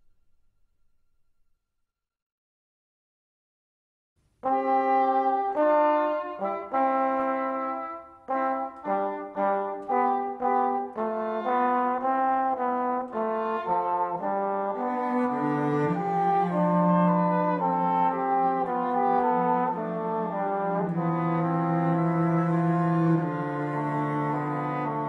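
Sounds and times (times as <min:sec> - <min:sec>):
brass melody: 0:04.4 - 0:25.0.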